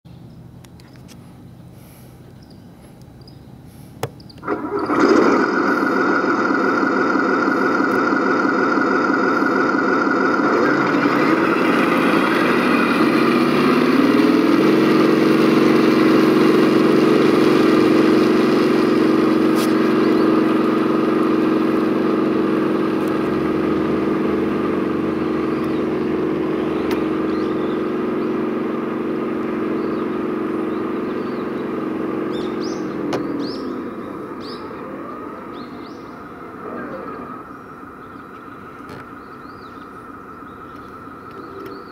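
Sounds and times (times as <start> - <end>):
simulated tank engine running: 0.1 - 41.9.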